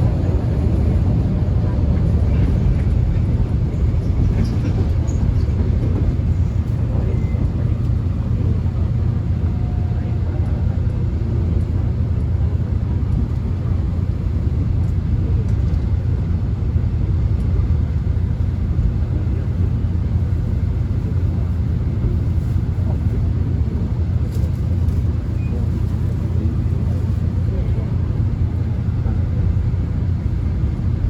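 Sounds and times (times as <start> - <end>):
subway train rumbling: 0.0 - 31.0.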